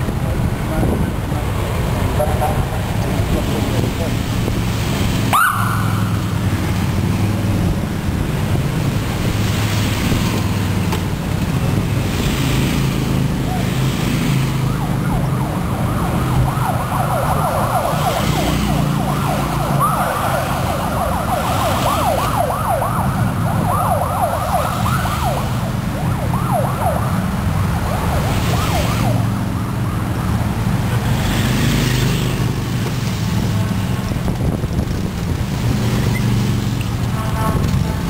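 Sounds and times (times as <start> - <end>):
traffic rumble: 0.0 - 38.0
police sirens yelping: 1.1 - 33.4.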